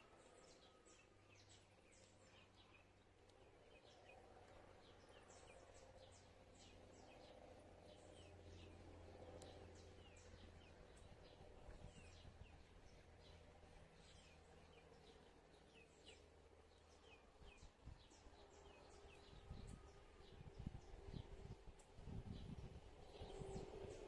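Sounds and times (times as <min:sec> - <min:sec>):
low steady hum: 0:00.0 - 0:24.0
songbirds chirping: 0:00.0 - 0:24.0.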